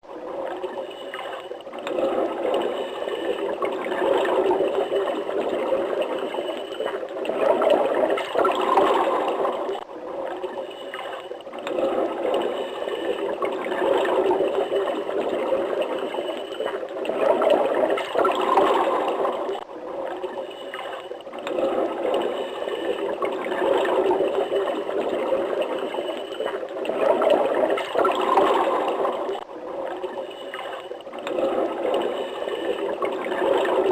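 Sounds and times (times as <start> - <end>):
water running and gurgling: 0.4 - 33.9.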